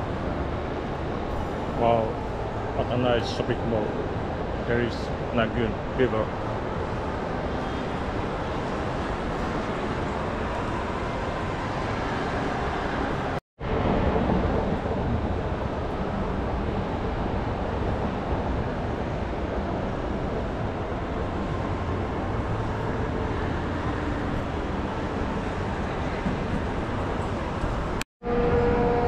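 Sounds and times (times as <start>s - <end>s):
background rumble of busy place: 0.0s - 29.0s.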